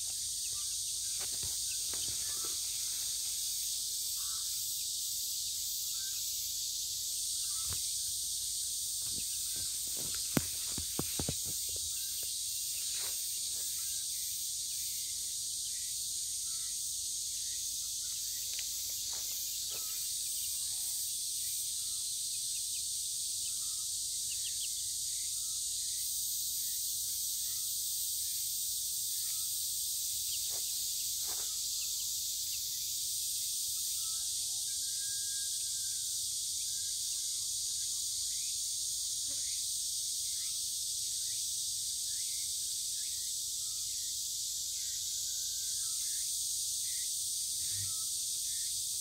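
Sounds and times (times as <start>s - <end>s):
cicadas chorus: 0.0s - 49.0s.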